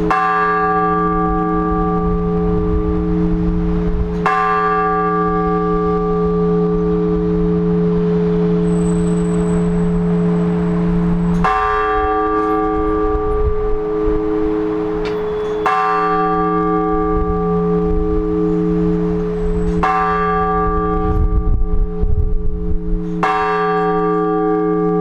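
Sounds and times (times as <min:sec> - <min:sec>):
large church bell ringing: 0:00.0 - 0:25.0.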